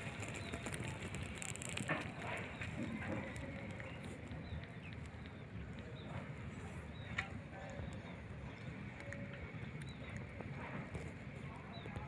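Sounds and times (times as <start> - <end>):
faint clicks: 0.0 - 12.0
outdoor background noise: 0.0 - 12.0.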